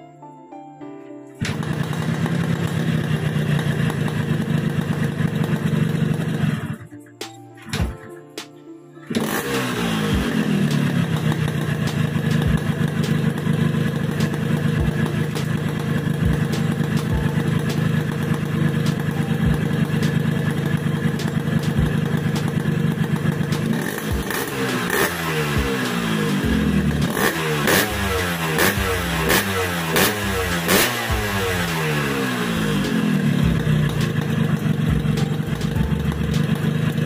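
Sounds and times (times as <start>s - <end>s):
two-stroke engine idling and revving: 1.4s - 6.8s, 9.1s - 37.0s
motorcycle engine kick-started: 1.4s - 6.9s, 9.1s - 37.0s.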